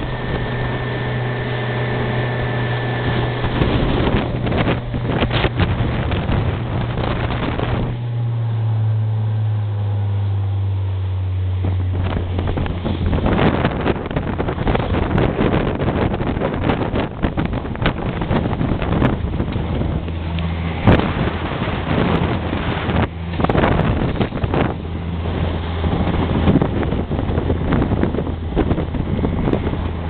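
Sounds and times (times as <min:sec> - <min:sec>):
boat engine droning: 0:00.0 - 0:30.0
water rushing: 0:00.0 - 0:30.0
wind buffeting microphone: 0:00.0 - 0:30.0.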